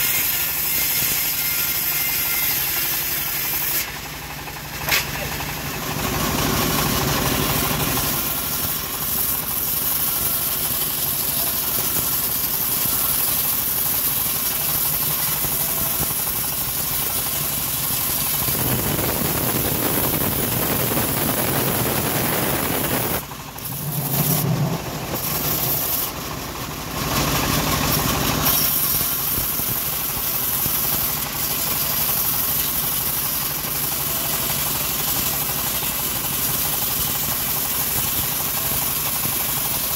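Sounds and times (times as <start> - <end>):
bandsaw mill cutting wood: 0.0 - 39.9.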